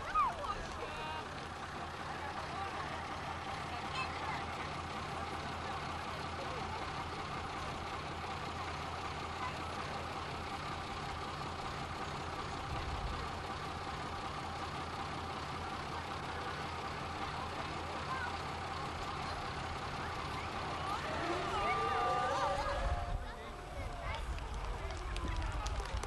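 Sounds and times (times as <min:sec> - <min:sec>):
truck engine low hum: 0:00.0 - 0:26.0.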